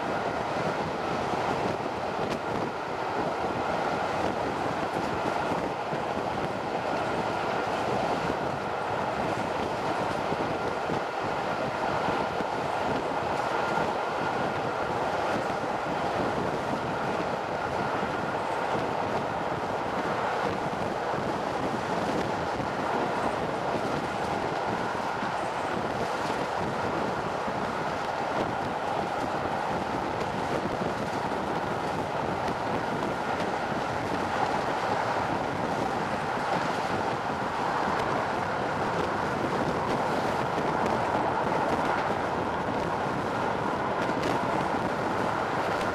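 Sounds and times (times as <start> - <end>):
train wheels on rails: 0.0 - 45.9
wind rushing over microphone: 0.0 - 45.9.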